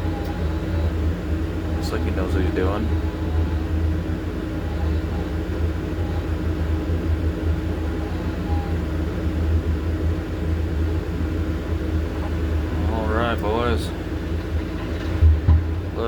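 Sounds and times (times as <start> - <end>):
excavator diesel engine drone: 0.0 - 16.0.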